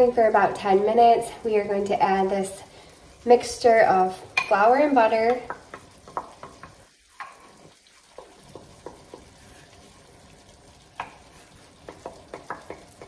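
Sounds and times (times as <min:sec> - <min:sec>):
pan simmering faintly: 0:00.0 - 0:13.0.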